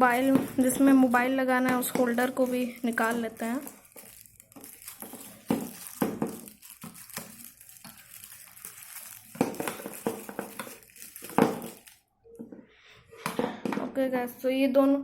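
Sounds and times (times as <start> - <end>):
plastic packaging crinkling: 0.0 - 12.1.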